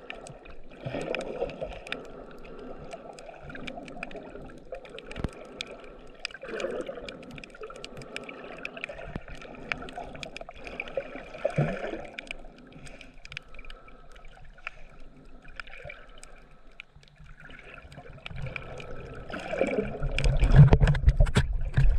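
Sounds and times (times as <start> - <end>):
feet kicking underwater churn: 0.0 - 21.9
muffled underwater wash: 0.0 - 21.9
sharp underwater clicks: 0.0 - 21.9.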